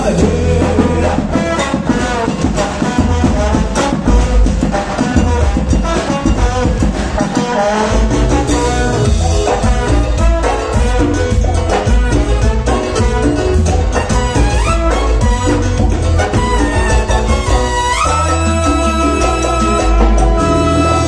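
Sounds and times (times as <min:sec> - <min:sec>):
congas: 0:00.0 - 0:21.0
latin dance band playing: 0:00.0 - 0:21.0
trombone and trumpet melody: 0:00.0 - 0:21.0.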